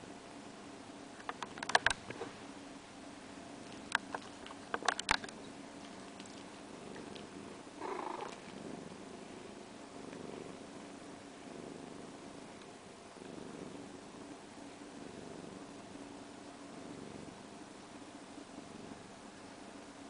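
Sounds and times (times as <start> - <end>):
cat purring: 3.5 - 19.9.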